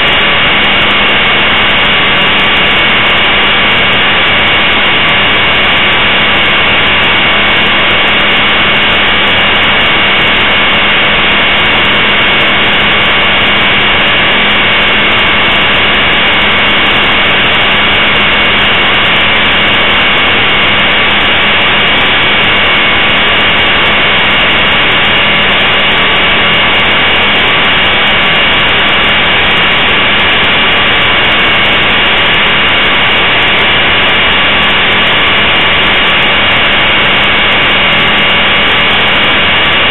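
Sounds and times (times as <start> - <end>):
rotor wash and wind noise: 0.0 - 39.9.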